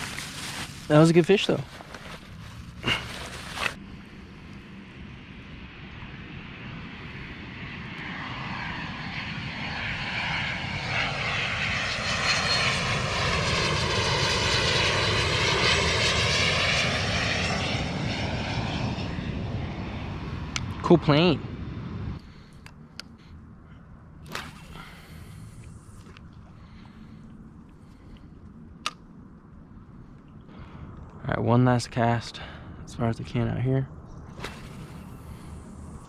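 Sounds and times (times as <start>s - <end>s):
airplane flying over: 0.0s - 36.0s.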